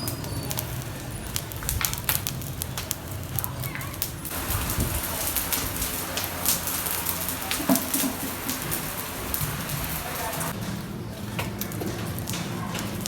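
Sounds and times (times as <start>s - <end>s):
food sizzling over fire: 0.0s - 10.6s, 11.5s - 13.0s.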